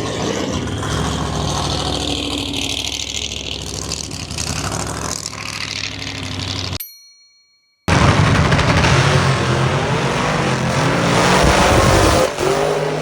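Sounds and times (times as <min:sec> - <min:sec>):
car engine idling: 0:00.0 - 0:06.8, 0:07.9 - 0:12.1.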